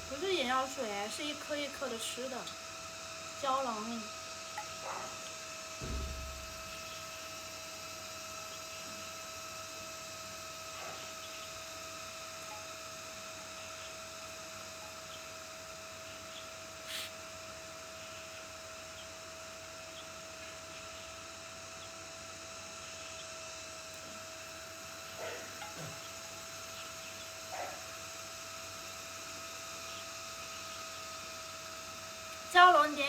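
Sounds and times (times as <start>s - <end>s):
constant hiss: 0.0s - 18.3s, 23.9s - 33.0s
high-pitched electrical whine: 0.0s - 33.0s.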